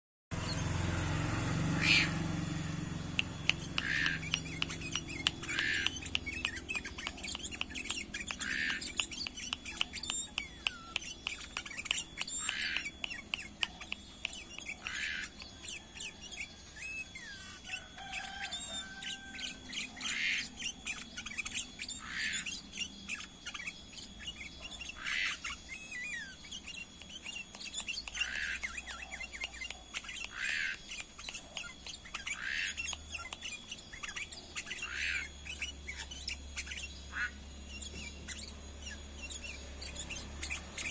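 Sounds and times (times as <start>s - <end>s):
bulbul chirping calls: 0.4s - 40.9s.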